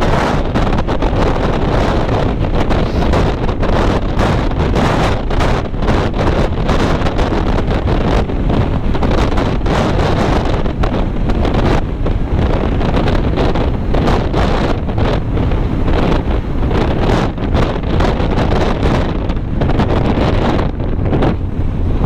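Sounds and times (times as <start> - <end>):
vehicle and road noise: 0.0 - 22.0
wind buffeting microphone: 0.0 - 22.0.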